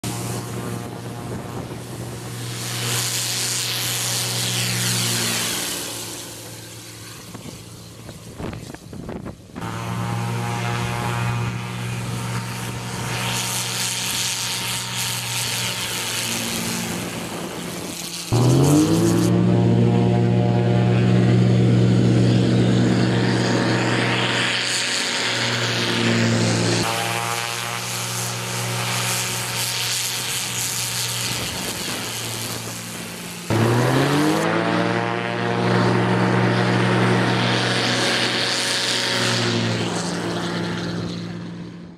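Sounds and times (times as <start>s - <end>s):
aircraft engine and propeller: 0.0s - 41.9s.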